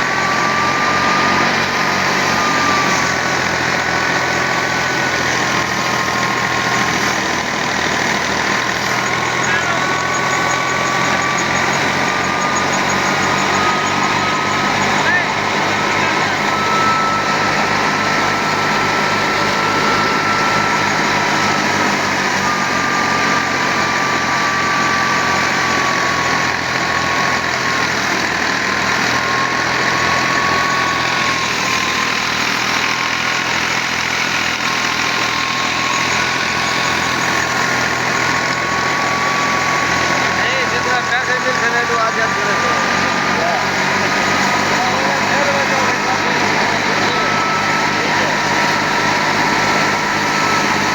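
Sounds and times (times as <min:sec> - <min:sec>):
threshing machine whine: 0:00.0 - 0:50.9
tractor engine running: 0:00.0 - 0:50.9.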